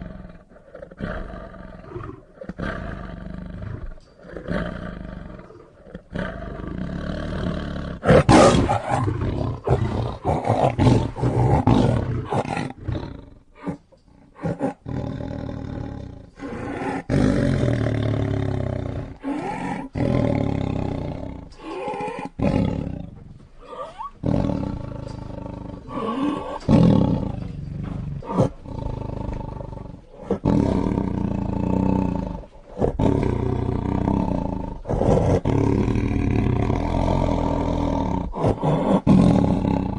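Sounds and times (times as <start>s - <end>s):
lion roaring: 0.0s - 39.9s.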